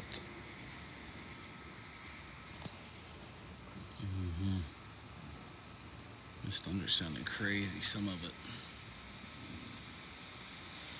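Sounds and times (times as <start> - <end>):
crickets trilling: 0.0 - 10.9.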